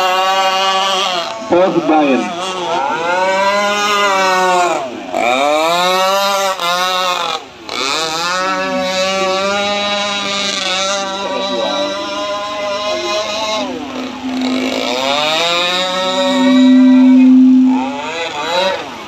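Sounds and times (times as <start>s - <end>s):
model boat engines revving: 0.0s - 18.3s.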